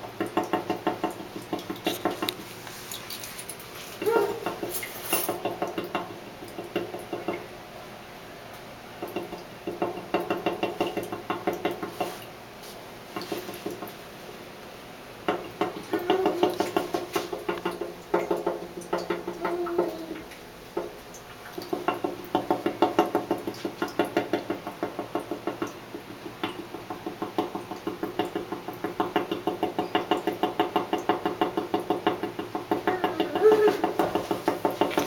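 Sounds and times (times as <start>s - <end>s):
air conditioner rapid knocking: 0.0s - 2.4s, 4.0s - 7.6s, 8.9s - 12.2s, 13.1s - 14.2s, 15.2s - 35.0s.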